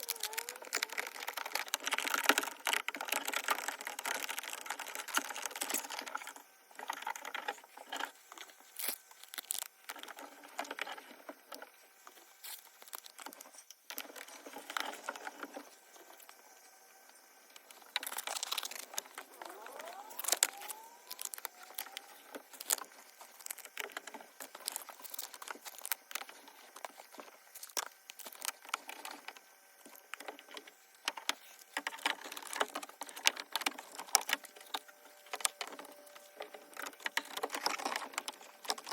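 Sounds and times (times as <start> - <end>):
hands handling tools and parts: 0.0 - 38.9.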